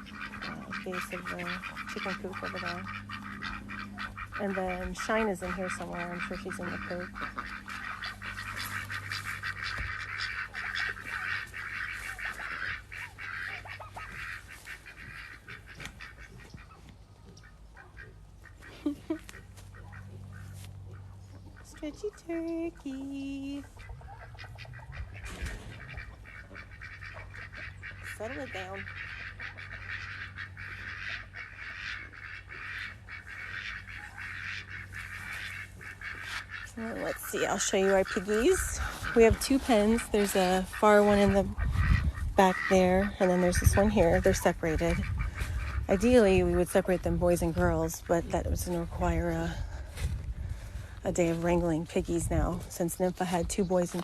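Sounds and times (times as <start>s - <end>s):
poultry flock calling: 0.0s - 54.0s
steady low hum: 0.0s - 54.0s.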